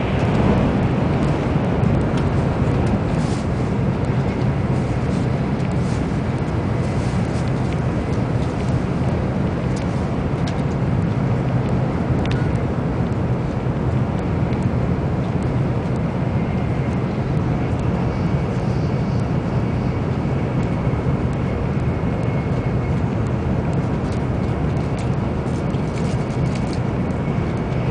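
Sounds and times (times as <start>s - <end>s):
high whine: 0.0s - 27.9s
train rumble inside cabin: 0.0s - 27.9s.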